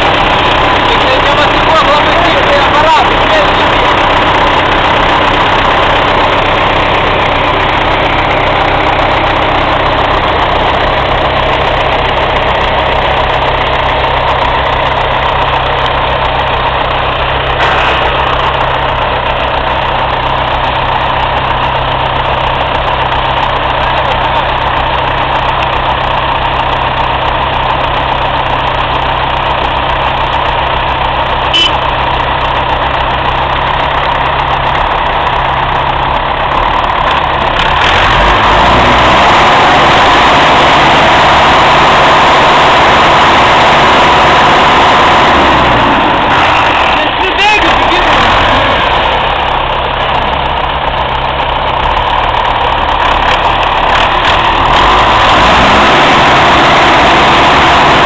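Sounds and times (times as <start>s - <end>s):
diesel tractor engine idling: 0.0s - 58.0s.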